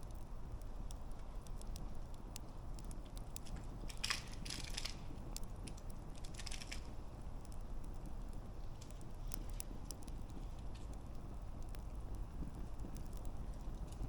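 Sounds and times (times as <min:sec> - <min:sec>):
campfire rumble: 0:00.0 - 0:14.0
fire crackling and popping: 0:00.0 - 0:14.0.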